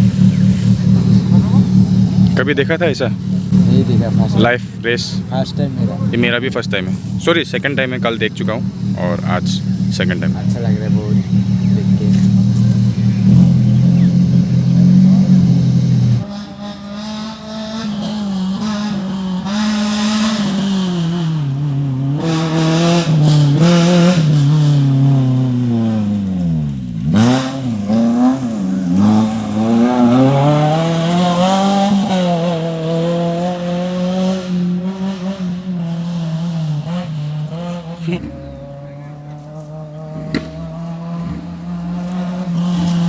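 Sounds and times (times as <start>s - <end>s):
race car engine revving: 0.0s - 43.0s.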